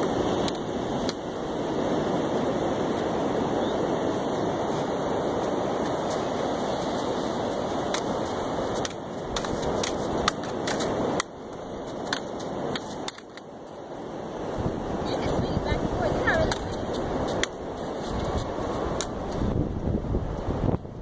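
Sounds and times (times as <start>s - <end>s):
wind and surf rushing: 0.0s - 21.0s.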